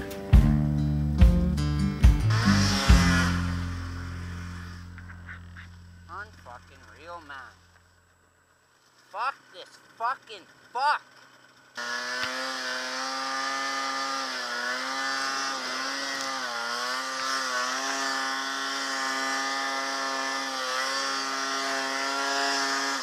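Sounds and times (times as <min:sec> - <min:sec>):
snowmobile engine revving: 0:02.2 - 0:07.6, 0:09.2 - 0:23.0.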